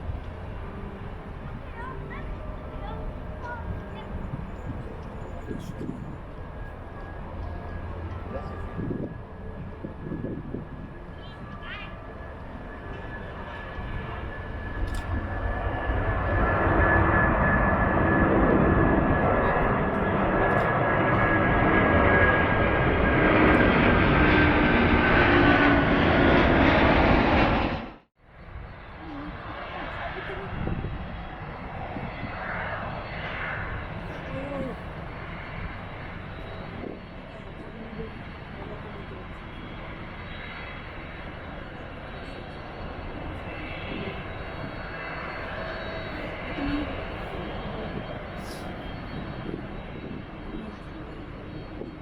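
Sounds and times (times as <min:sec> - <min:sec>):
jet engines roaring with whine: 0:00.0 - 0:52.0.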